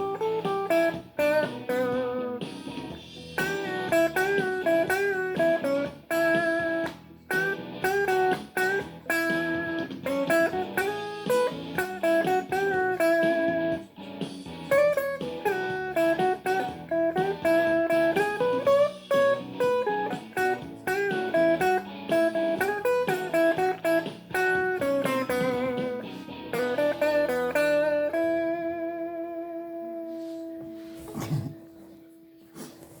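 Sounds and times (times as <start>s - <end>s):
blues guitar playing: 0.0s - 32.8s.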